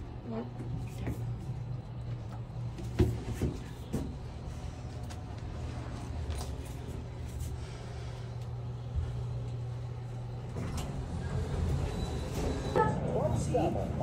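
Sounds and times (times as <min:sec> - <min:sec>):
elevator humming: 0:01.4 - 0:14.0.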